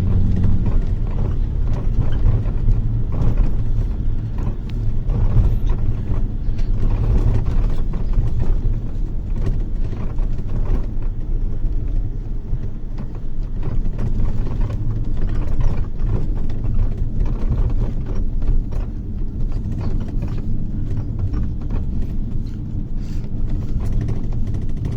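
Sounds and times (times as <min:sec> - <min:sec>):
bus engine and road rumble: 0:00.0 - 0:24.9
small rattles and knocks: 0:00.0 - 0:24.9.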